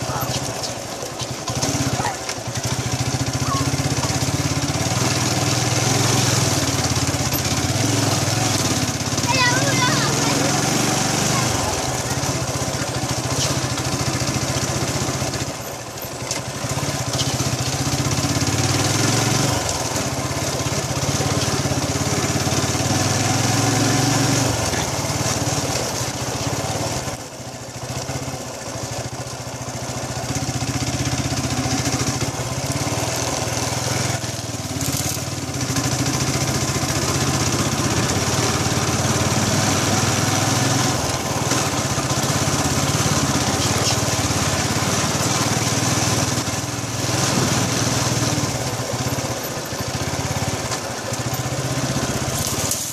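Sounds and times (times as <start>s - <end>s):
small motorcycle engine running: 0.0s - 52.9s.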